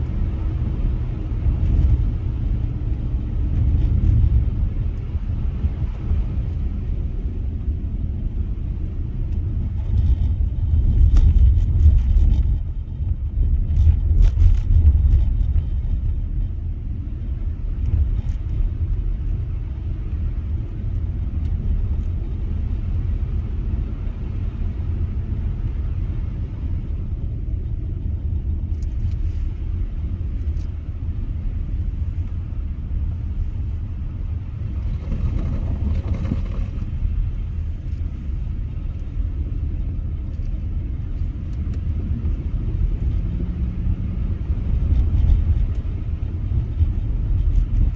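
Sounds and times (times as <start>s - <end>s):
car road rumble on snow: 0.0s - 47.9s.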